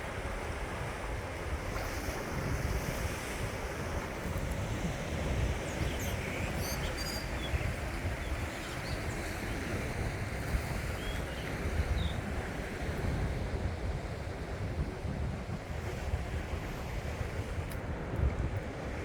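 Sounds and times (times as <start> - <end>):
sea surf washing on shore: 0.0 - 19.0
wind buffeting microphone: 0.0 - 19.0.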